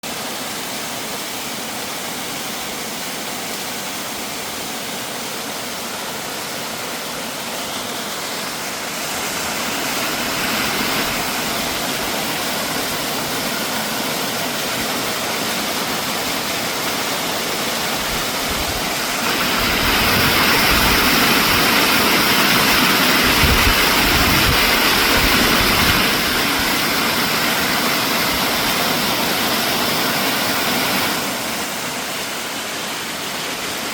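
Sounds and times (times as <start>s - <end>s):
stream and waterfall rushing: 0.0s - 33.9s.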